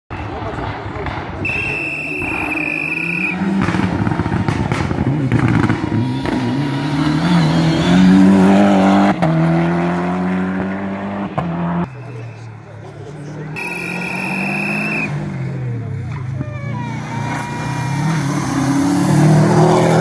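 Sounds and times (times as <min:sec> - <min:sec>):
rally car engine passing: 0:02.1 - 0:20.0.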